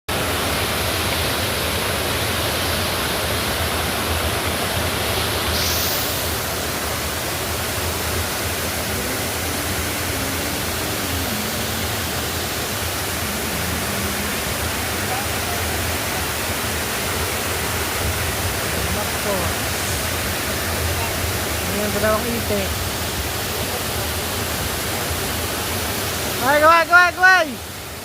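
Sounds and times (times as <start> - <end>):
water rushing: 0.1 - 28.0.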